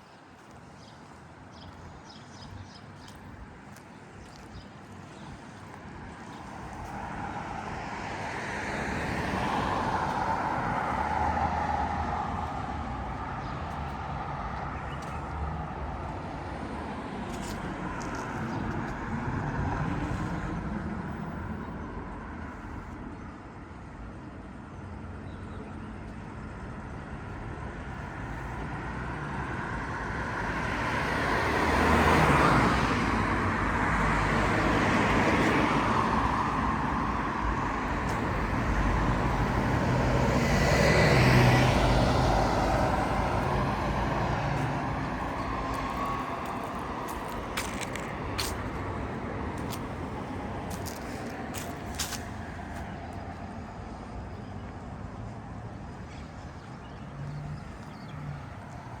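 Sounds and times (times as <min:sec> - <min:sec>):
cars passing: 0:00.0 - 0:23.1, 0:25.8 - 0:59.0.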